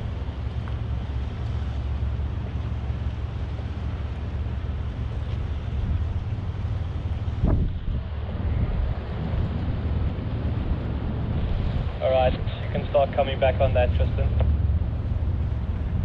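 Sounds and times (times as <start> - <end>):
motor yacht engine rumble: 0.0 - 16.0
wind on microphone: 0.0 - 16.0.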